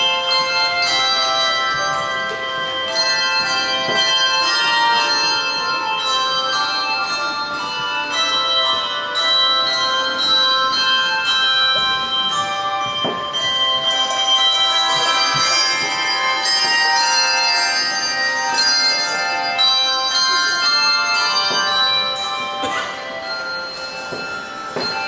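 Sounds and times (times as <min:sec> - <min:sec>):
handbell choir playing: 0:00.0 - 0:25.0.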